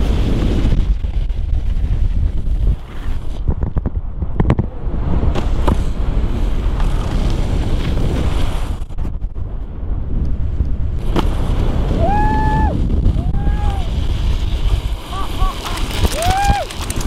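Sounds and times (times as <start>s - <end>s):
snowboards scraping on snow: 0.0s - 3.6s, 5.0s - 9.6s, 10.8s - 17.0s
wind buffeting camera microphone: 0.0s - 17.0s.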